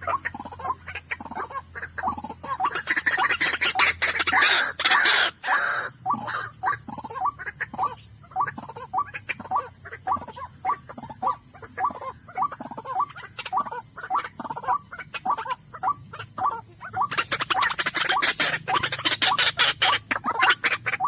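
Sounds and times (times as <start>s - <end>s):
high insect buzz: 0.0s - 21.0s
waterhen calling rapid notes: 0.0s - 21.0s.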